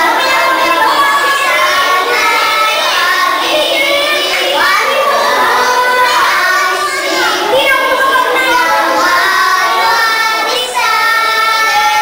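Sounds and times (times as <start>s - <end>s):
girls singing in unison: 0.0s - 12.0s.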